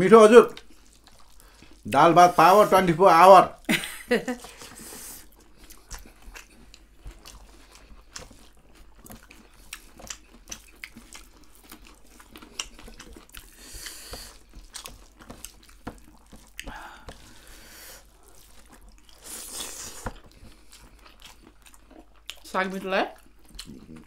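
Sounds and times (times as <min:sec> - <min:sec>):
chewing and wet mouth clicks: 0:00.5 - 0:02.0, 0:04.4 - 0:17.4, 0:18.0 - 0:22.5, 0:23.1 - 0:24.0.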